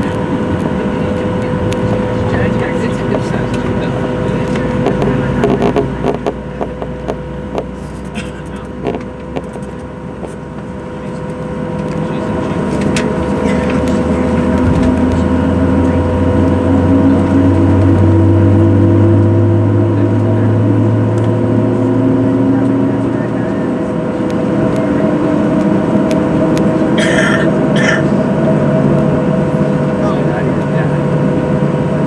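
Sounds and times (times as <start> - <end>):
jet engine hum in cabin: 0.0 - 32.0.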